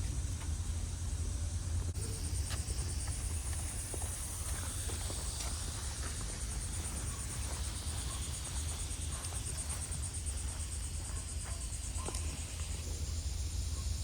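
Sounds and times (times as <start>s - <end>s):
low steady rumble: 0.0s - 14.0s
insect trilling: 2.0s - 14.0s.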